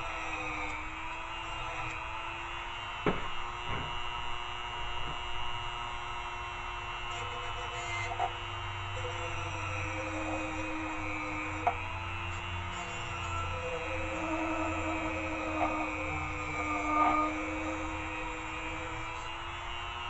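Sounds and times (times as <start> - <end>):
rotary tool high hum: 0.0 - 20.0.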